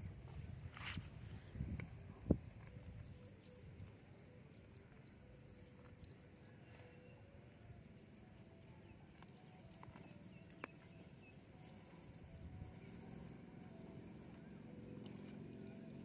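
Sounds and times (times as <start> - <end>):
small ticks: 1.6 - 16.0.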